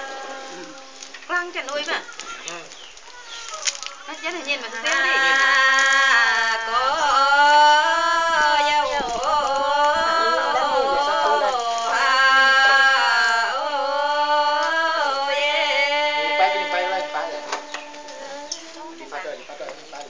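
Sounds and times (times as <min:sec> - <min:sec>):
women singing folk song: 0:00.0 - 0:02.0, 0:04.1 - 0:19.4.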